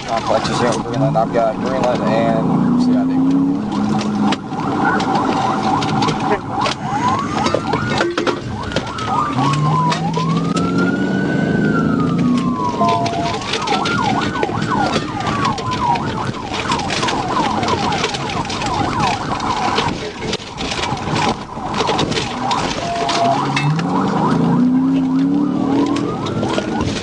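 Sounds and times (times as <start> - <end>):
car engine and road noise: 0.0 - 27.0
police siren wailing and yelping: 0.0 - 27.0.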